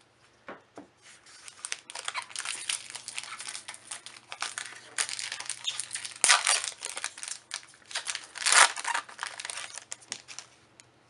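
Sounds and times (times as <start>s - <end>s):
foil wrapper crinkling: 1.2s - 10.6s.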